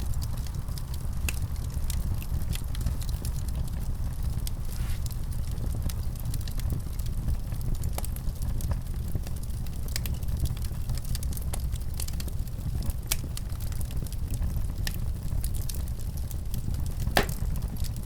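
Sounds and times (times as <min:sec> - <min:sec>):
fire crackling and popping: 0:00.0 - 0:18.0
fire rumbling: 0:00.0 - 0:18.0.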